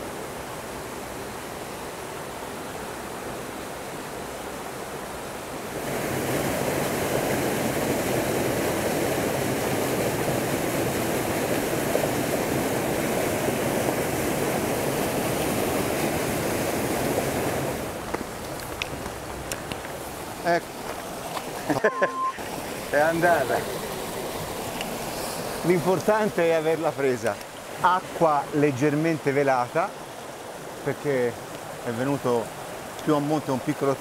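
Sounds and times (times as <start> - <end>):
water rushing over rocks: 0.0 - 34.0.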